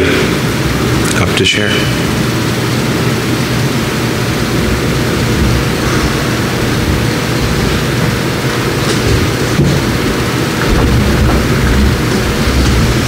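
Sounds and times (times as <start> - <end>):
rumbling hiss: 0.0 - 13.0.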